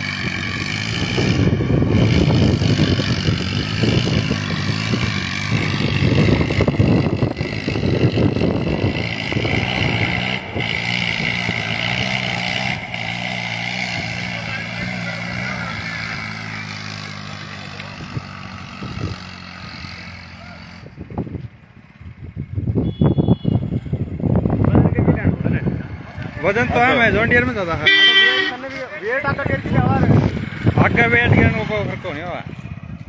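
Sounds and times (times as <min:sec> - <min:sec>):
tractor diesel engine revving: 0:00.0 - 0:21.2, 0:23.7 - 0:33.0
wheels spinning on tarmac: 0:00.0 - 0:33.0.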